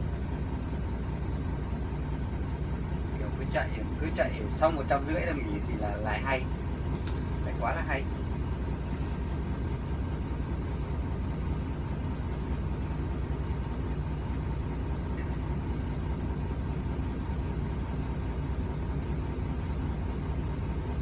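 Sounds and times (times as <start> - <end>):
truck diesel engine humming: 0.0 - 21.0.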